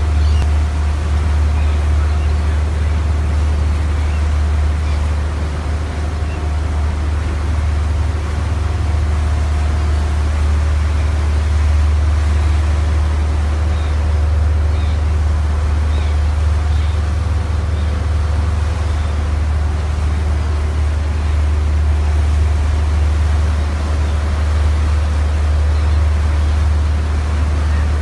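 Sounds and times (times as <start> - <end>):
churning wake water: 0.0 - 28.0
motorboat engine drone: 0.0 - 28.0.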